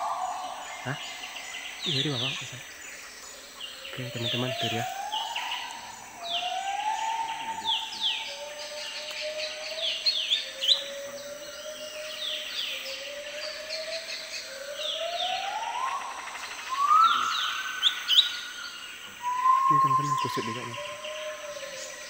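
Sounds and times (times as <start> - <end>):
bird whistling long notes: 0.0 - 2.5, 3.9 - 22.0
birds chirping: 0.0 - 22.0.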